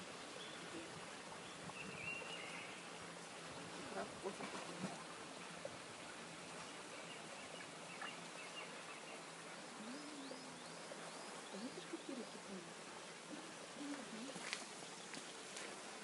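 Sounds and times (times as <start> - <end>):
water trickling: 0.0 - 16.0
songbird chirping: 0.1 - 5.5, 6.5 - 15.8.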